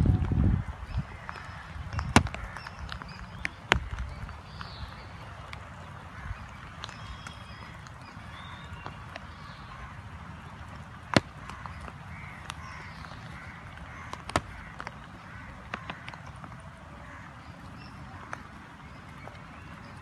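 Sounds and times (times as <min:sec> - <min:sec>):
rain falling: 0:00.0 - 0:20.0
sharp taps of raindrops: 0:00.0 - 0:20.0
faint bird calls: 0:00.5 - 0:20.0.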